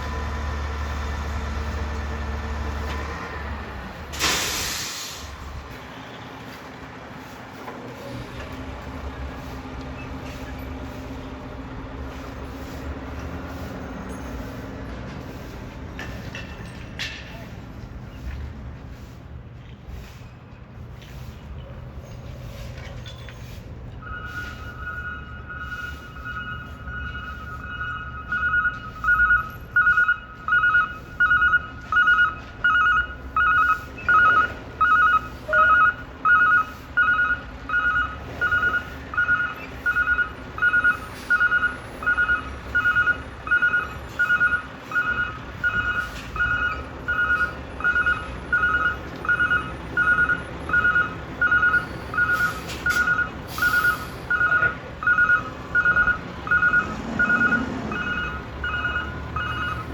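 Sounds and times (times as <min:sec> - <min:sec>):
truck backup alarm beeping: 0:00.0 - 0:05.3, 0:08.9 - 0:16.7, 0:23.3 - 0:59.9
truck engine running: 0:00.0 - 0:19.7, 0:20.4 - 0:59.9.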